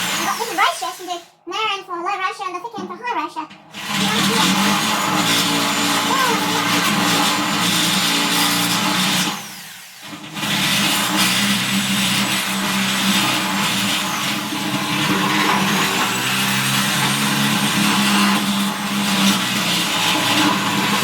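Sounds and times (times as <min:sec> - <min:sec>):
electric drill drilling steel: 0:00.0 - 0:01.4, 0:03.7 - 0:21.0.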